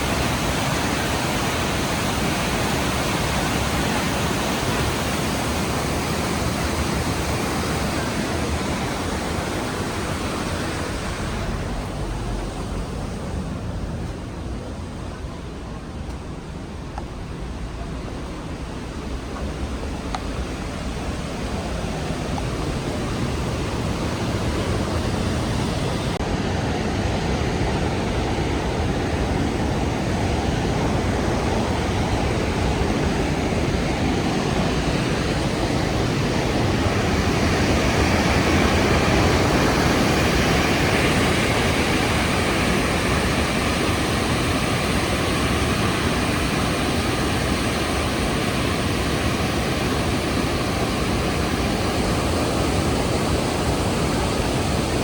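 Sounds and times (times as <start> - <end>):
waterfall rushing: 0.0 - 15.1, 17.6 - 55.0.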